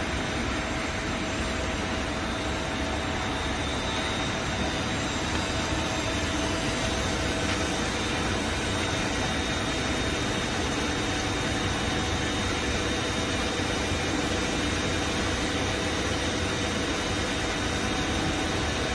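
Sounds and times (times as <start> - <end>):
faint high whine: 0.0 - 18.9
lathe machine hum and hiss: 0.0 - 18.9.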